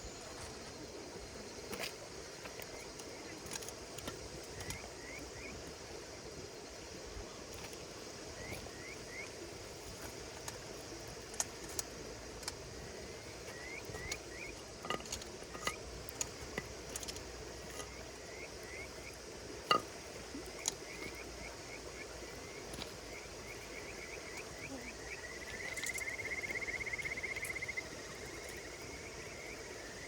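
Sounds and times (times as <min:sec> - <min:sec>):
insects chorus: 0:00.0 - 0:30.0.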